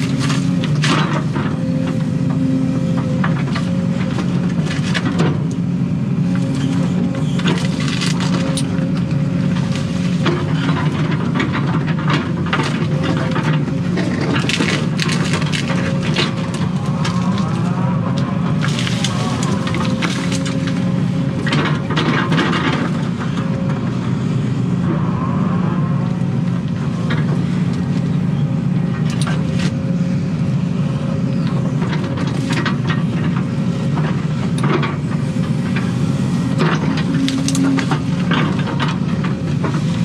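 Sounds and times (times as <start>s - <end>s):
excavator diesel engine running: 0.0s - 40.0s
hydraulics working: 0.0s - 40.0s.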